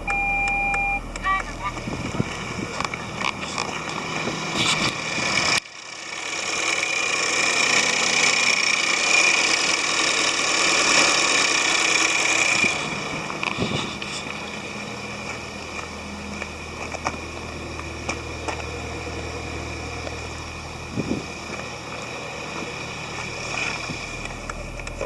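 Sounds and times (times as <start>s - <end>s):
car engine running: 0.0s - 25.0s
high-pitched turbo whine: 0.0s - 25.0s.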